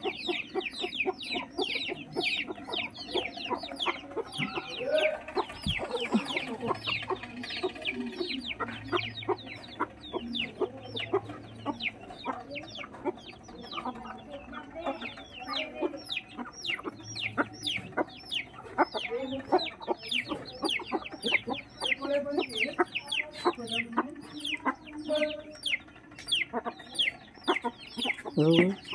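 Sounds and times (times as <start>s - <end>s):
chicks peeping: 0.0s - 28.9s
hens clucking: 0.0s - 28.9s.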